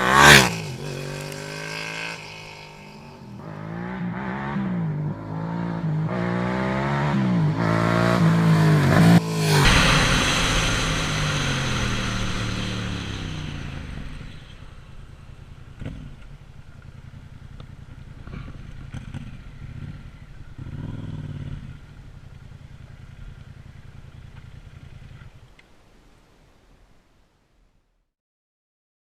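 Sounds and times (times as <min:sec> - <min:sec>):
motorcycle engine: 0:00.0 - 0:25.3.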